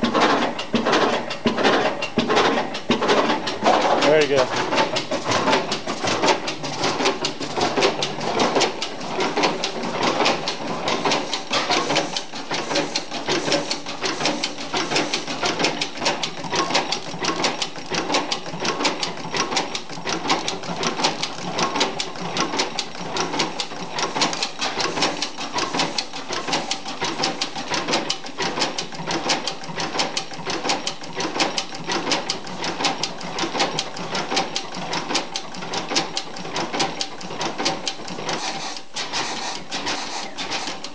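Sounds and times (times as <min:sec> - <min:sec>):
stationary engine clattering: 0:00.0 - 0:40.9.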